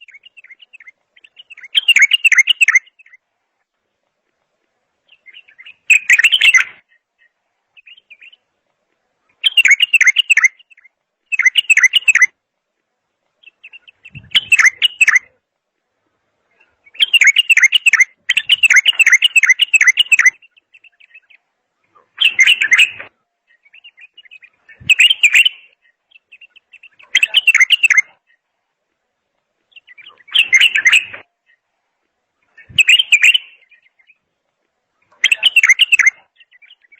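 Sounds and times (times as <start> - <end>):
songbird singing warbled phrases: 0.0 - 3.2, 5.0 - 8.5, 9.2 - 12.4, 13.4 - 15.4, 16.5 - 28.5, 29.6 - 31.7, 32.4 - 34.3, 34.9 - 36.9.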